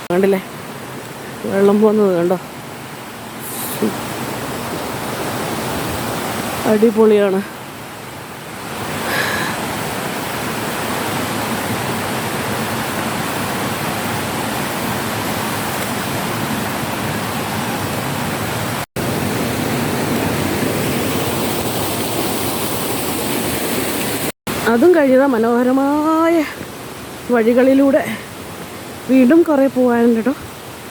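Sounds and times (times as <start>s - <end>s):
stream water rushing: 0.0s - 30.9s.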